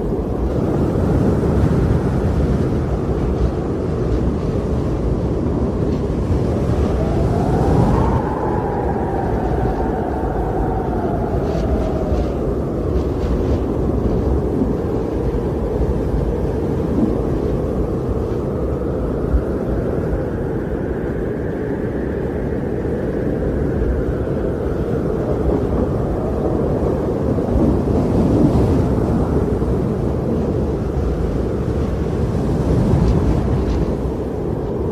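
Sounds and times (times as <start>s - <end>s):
strong wind blowing: 0.0s - 34.9s.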